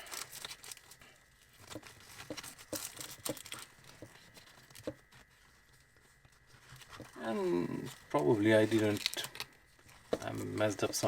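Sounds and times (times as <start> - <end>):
faint crinkling: 0.0 - 11.0.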